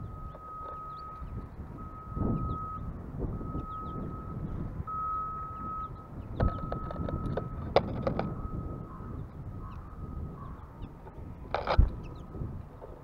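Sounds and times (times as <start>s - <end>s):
vehicle reversing alarm: 0.0s - 12.6s
low traffic rumble: 0.0s - 13.0s.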